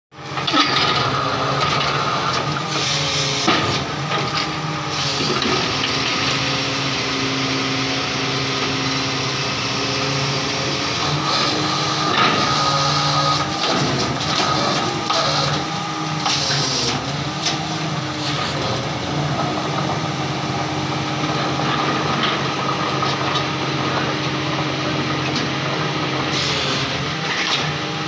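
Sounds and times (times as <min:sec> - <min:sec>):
drilling rig running: 0:00.2 - 0:28.0.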